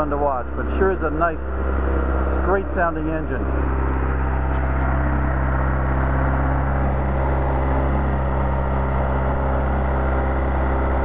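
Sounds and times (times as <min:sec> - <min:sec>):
car engine running steadily: 0:00.0 - 0:11.0.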